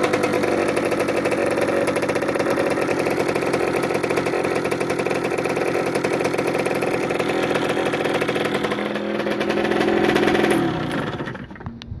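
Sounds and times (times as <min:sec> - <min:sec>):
two-stroke engine running: 0:00.0 - 0:12.0.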